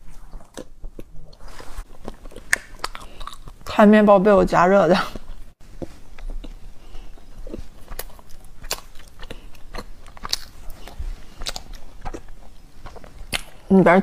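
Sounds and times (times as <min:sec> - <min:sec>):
person chewing and smacking: 0:00.0 - 0:03.8, 0:05.2 - 0:13.7.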